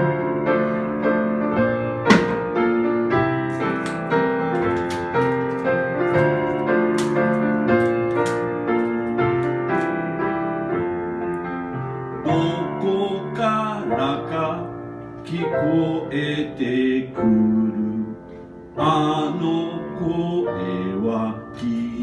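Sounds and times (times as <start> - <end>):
slow gentle piano: 0.0 - 22.0.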